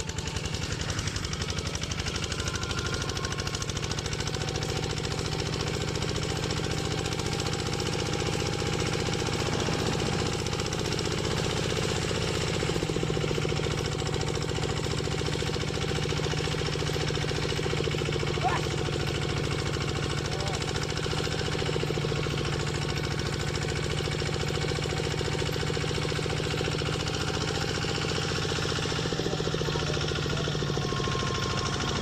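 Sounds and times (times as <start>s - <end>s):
diesel tractor engine chugging: 0.0s - 32.0s.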